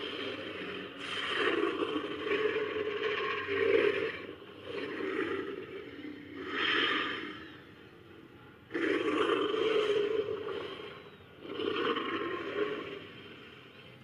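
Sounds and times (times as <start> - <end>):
raspy dinosaur growls: 0.0 - 8.0, 8.6 - 14.0.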